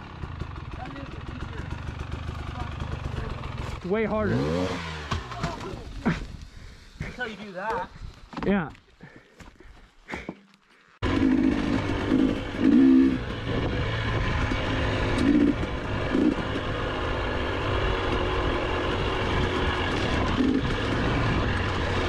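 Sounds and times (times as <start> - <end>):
dirt bike engine running: 0.0 - 9.2, 10.2 - 22.0.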